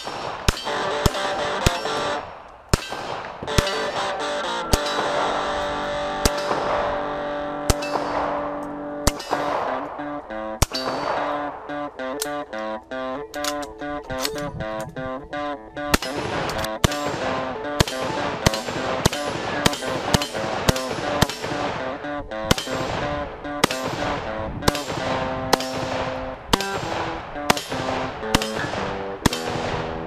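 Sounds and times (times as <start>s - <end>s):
rifle shots: 0.0s - 12.8s, 15.8s - 30.0s
background music: 0.6s - 2.4s, 3.4s - 30.0s.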